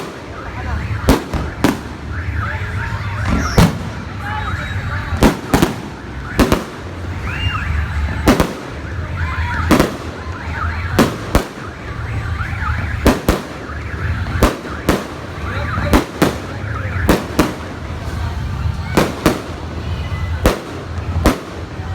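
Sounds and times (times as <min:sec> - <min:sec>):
fireworks bangs: 0:00.0 - 0:21.9.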